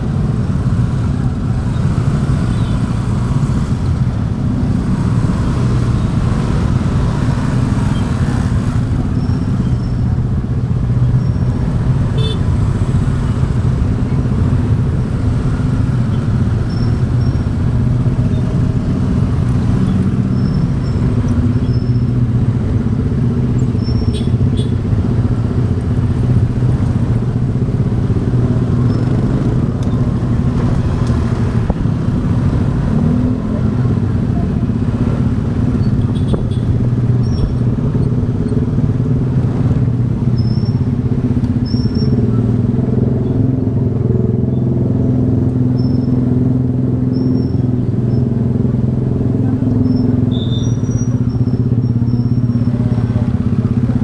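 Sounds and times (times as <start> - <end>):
motorbike engine running: 0.0 - 54.0
other traffic: 0.0 - 54.0
road and wind noise: 0.0 - 54.0.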